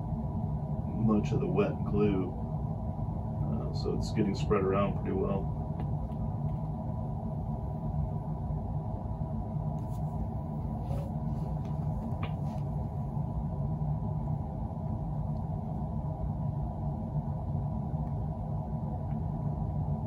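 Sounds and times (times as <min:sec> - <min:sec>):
faint hum: 0:00.0 - 0:20.0
low background rumble: 0:00.0 - 0:20.0.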